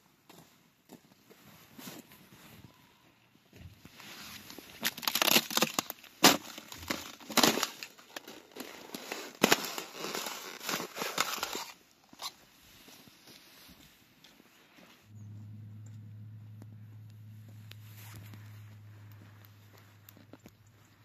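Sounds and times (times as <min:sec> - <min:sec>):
crackling and crunching: 0:03.6 - 0:21.0.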